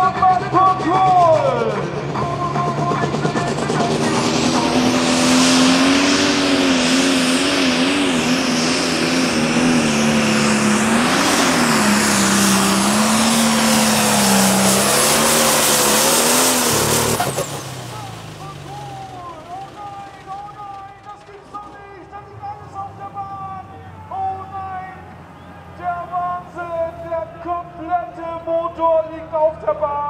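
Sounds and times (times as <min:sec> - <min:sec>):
diesel engine under load: 0:00.0 - 0:30.0.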